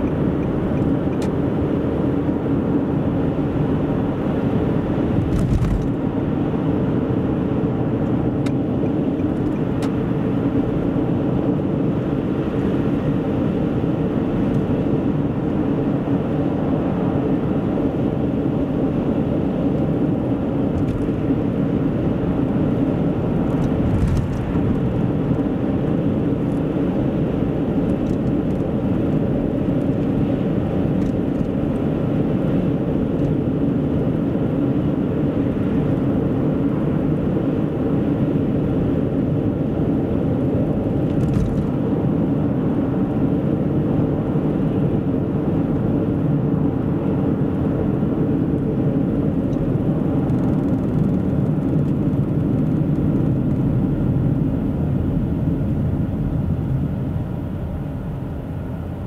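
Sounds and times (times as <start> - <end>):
car tyres and engine rumble: 0.0 - 59.0.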